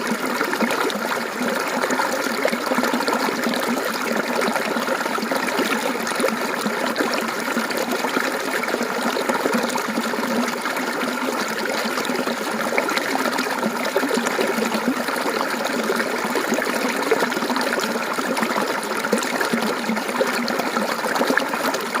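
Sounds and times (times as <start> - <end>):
stream water babbling: 0.0 - 22.0.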